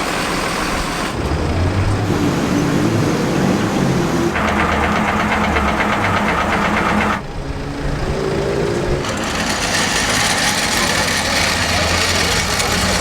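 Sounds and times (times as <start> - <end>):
car engine pulsing: 0.0 - 13.0
quieter engine running: 0.0 - 13.0.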